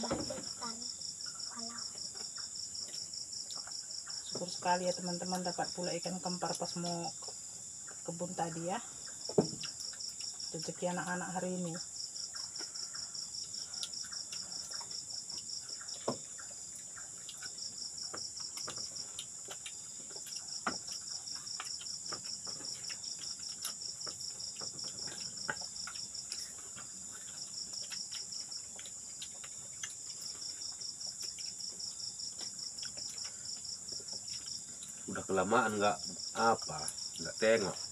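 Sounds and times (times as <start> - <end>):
insects droning and trilling: 0.0 - 37.9.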